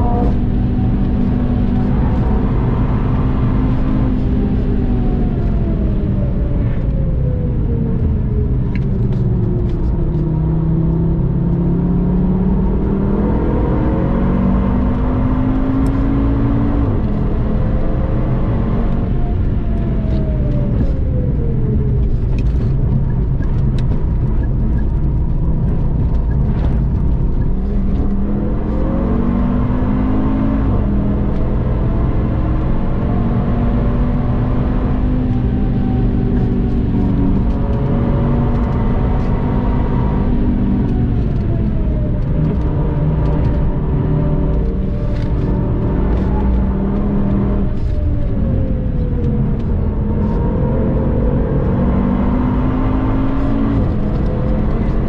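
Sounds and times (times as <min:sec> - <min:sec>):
car engine accelerating and slowing: 0:00.0 - 0:55.0
road and tyre rumble: 0:00.0 - 0:55.0.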